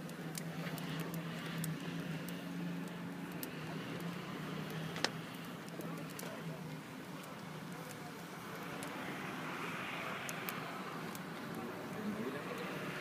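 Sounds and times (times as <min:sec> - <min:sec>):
bonfire crackling: 0:00.0 - 0:13.0
fire popping: 0:00.0 - 0:13.0.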